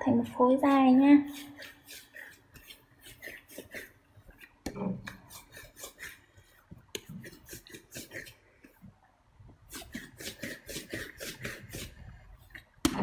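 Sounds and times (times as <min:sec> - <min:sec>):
hands rubbing and patting dough: 0:00.0 - 0:13.0.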